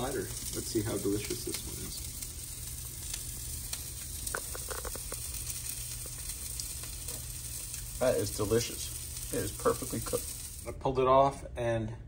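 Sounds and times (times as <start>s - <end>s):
oil sizzling in a pan: 0.0s - 10.7s.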